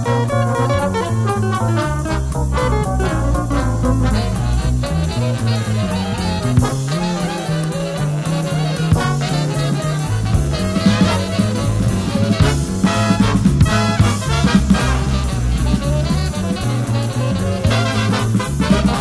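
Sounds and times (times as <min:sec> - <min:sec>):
big band swing music: 0:00.0 - 0:19.0.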